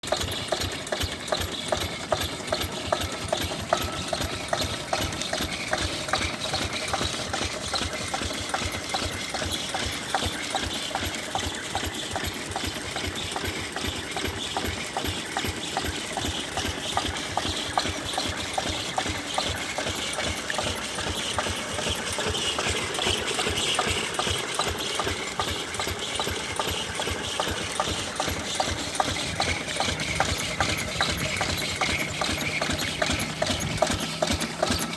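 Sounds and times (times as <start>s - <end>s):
water pump engine knocking: 0.0s - 34.9s.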